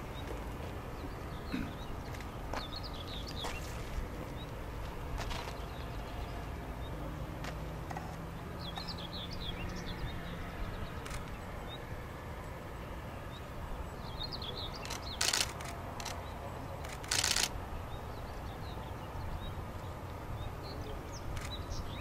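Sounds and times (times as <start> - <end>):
small birds twittering: 0.0 - 11.9, 13.3 - 22.0.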